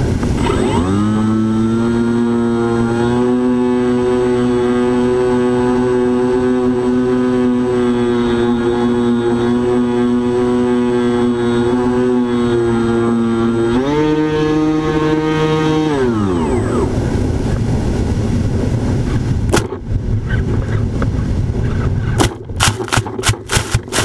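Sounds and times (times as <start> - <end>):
model aircraft motor droning: 0.0 - 19.8.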